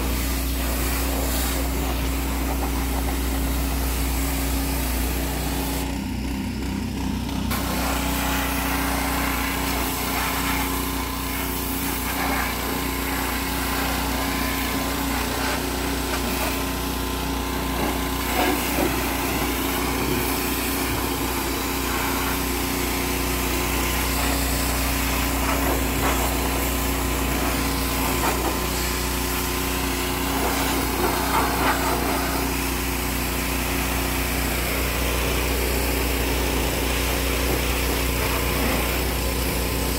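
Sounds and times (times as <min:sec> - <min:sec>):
water jet hissing on truck: 0:00.0 - 0:06.0, 0:07.4 - 0:39.9
pressure washer engine drone: 0:00.0 - 0:39.9.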